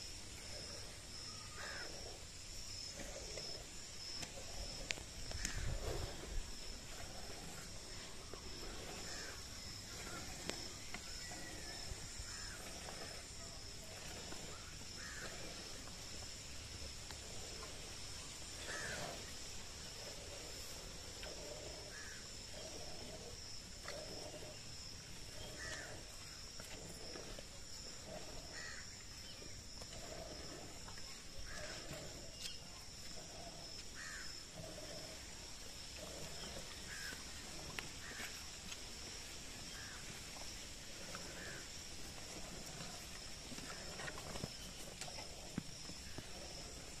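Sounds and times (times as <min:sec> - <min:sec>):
high insect drone: 0:00.0 - 0:47.0.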